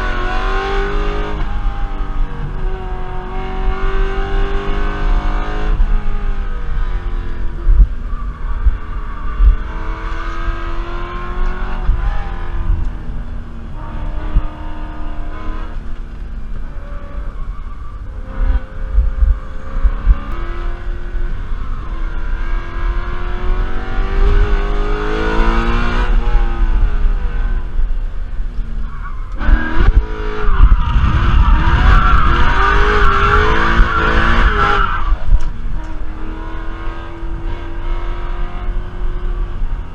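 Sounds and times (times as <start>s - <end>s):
car engine revving at full throttle: 0.0s - 39.9s.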